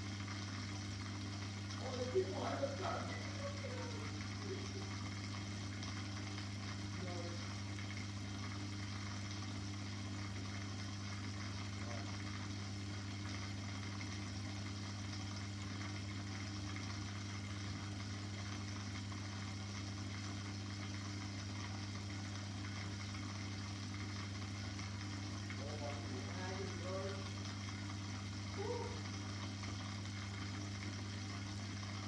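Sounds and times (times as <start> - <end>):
aquarium pump humming: 0.0 - 32.0
constant hiss: 0.0 - 32.0.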